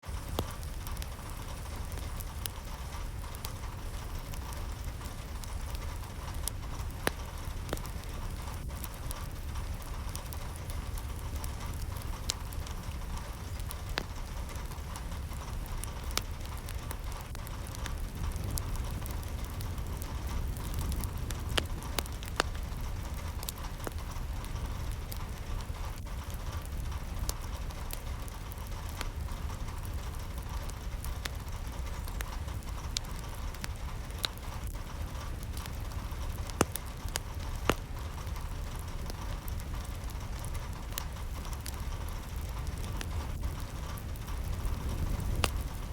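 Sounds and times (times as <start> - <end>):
sharp raindrop ticks: 0.0 - 45.9
steady rain: 0.0 - 45.9.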